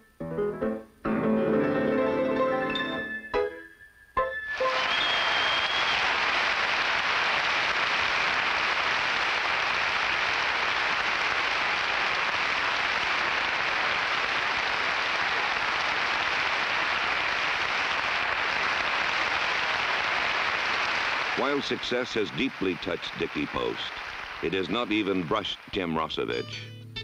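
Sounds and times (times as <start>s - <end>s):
stadium crowd applauding: 4.5s - 26.4s.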